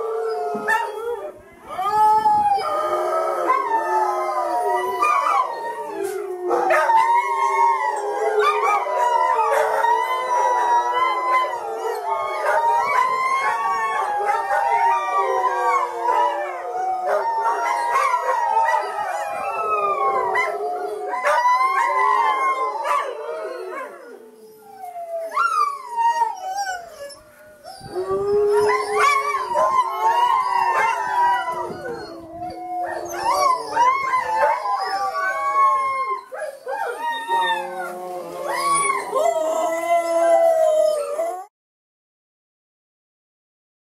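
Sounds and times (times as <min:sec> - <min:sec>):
sled dogs howling: 0:00.0 - 0:41.5.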